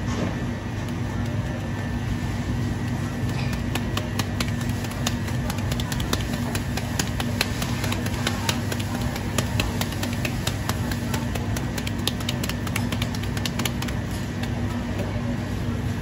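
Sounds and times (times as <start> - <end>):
low machine hum: 0.0 - 16.0
wet slaps of kneading meat: 0.6 - 14.7.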